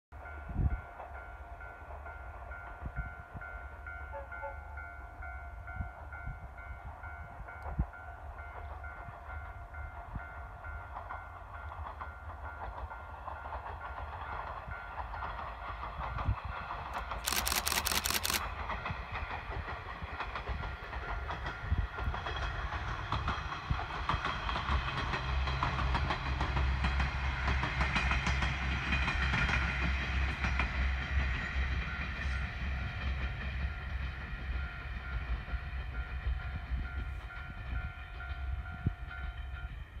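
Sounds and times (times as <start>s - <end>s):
train wheels clicking on rail joints: 7.4s - 39.9s.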